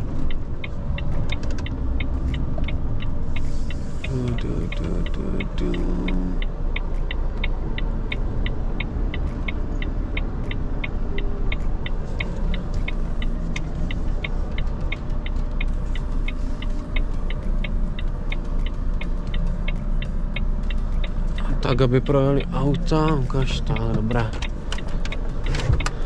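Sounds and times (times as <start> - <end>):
diesel engine rumbling: 0.0 - 26.0
flasher relay ticking: 0.0 - 26.0.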